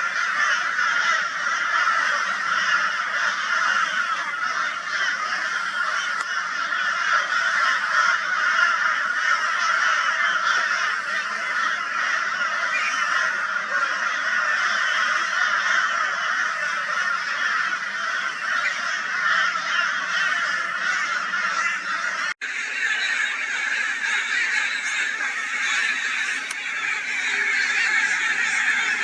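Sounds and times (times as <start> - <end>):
crows calling raucously: 0.0 - 29.0.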